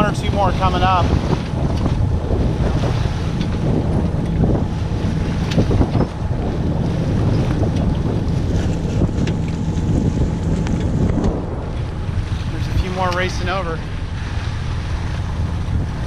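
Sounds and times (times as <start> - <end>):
water rushing along hull: 0.0 - 16.0
wind buffeting microphone: 0.0 - 16.0.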